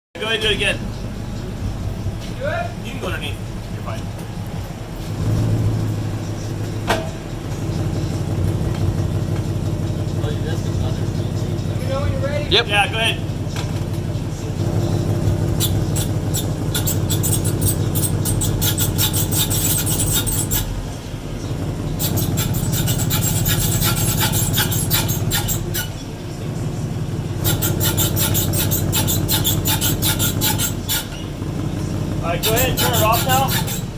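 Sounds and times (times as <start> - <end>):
driveshaft squeaking: 0.2 - 33.9
drivetrain drone: 0.3 - 33.9.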